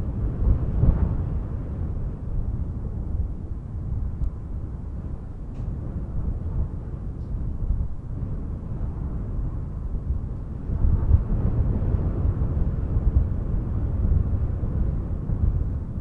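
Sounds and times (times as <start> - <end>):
wind gusting: 0.0 - 16.0.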